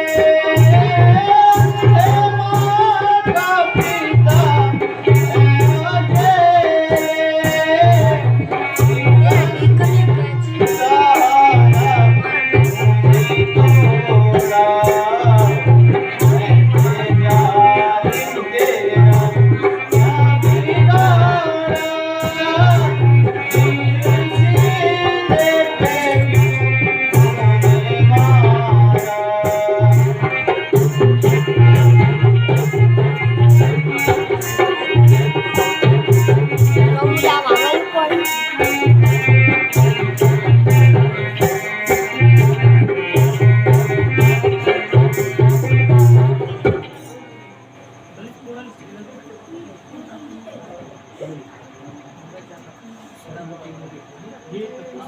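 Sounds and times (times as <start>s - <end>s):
low drum beat: 0.0s - 37.8s, 38.7s - 47.0s
fast high ticking percussion: 0.0s - 55.0s.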